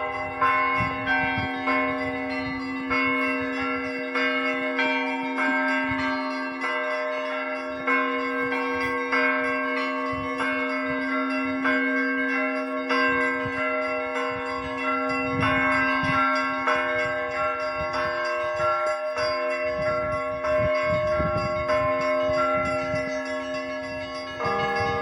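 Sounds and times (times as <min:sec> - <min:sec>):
church bells ringing: 0:00.0 - 0:25.0
low hum of large bell: 0:00.0 - 0:25.0.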